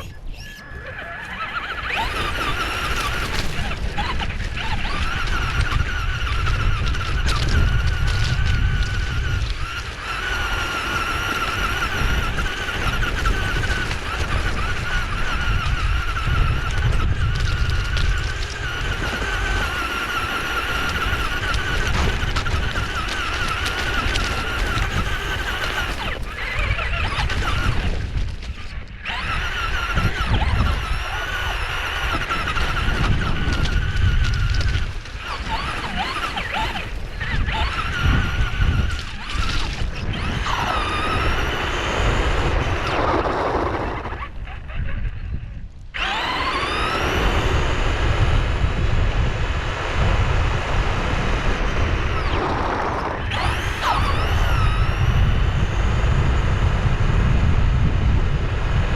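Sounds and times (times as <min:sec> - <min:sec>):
rc car motor whine: 0:00.0 - 0:58.9.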